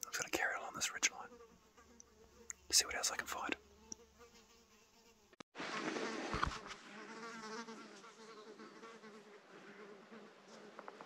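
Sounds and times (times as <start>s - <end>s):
insect buzzing: 0.0s - 5.4s, 6.0s - 11.0s.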